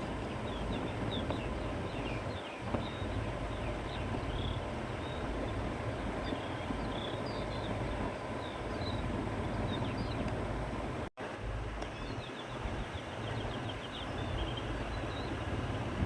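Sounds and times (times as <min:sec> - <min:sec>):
wind blowing: 0:00.0 - 0:16.0
small birds chirping: 0:00.2 - 0:10.4, 0:11.8 - 0:15.7.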